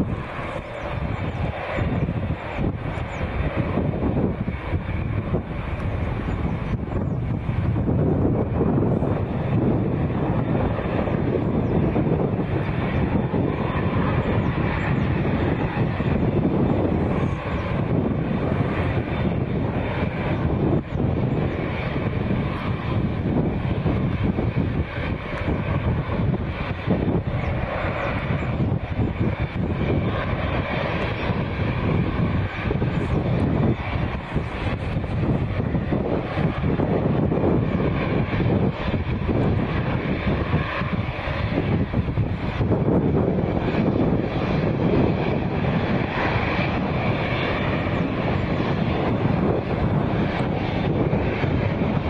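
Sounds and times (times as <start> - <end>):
jet engines running: 0.0 - 52.0.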